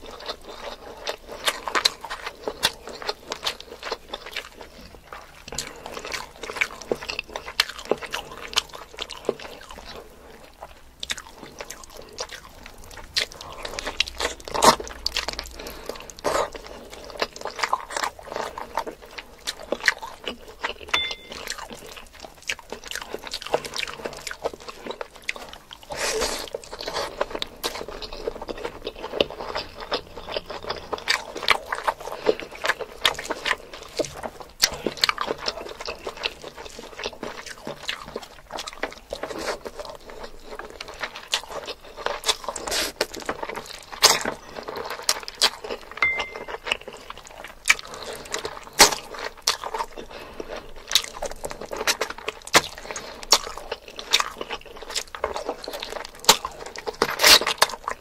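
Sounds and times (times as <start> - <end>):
close chewing and biting: 0.0 - 58.0.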